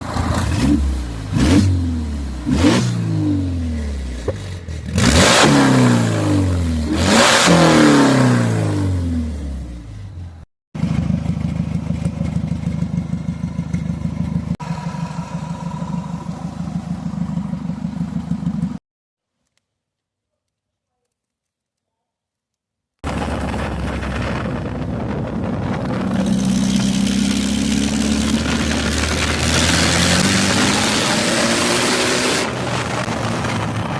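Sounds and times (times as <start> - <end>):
car engine revving and idling: 0.0 - 18.8, 23.0 - 33.9.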